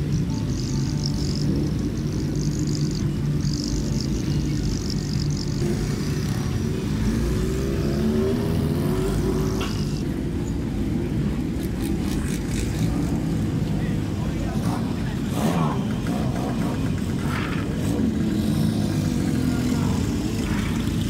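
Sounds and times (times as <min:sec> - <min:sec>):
motorcycle engine revving: 0:00.0 - 0:10.0, 0:11.5 - 0:21.0
motorcycle engines running: 0:00.0 - 0:21.0.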